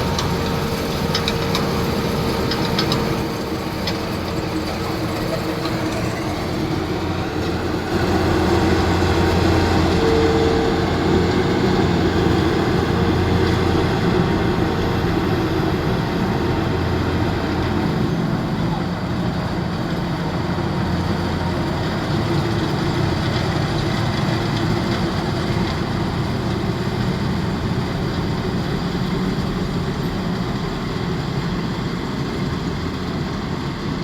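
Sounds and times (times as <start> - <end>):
machine humming and whining: 0.0 - 34.0.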